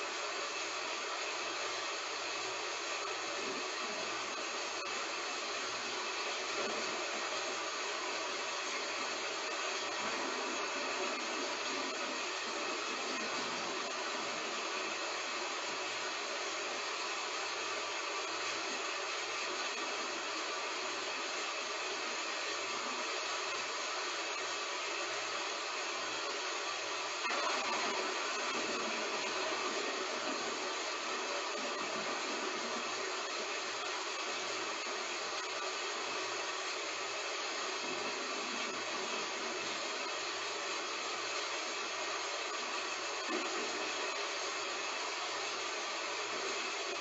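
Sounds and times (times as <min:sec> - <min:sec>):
heavy rain falling: 0:05.4 - 0:24.5, 0:25.5 - 0:47.0.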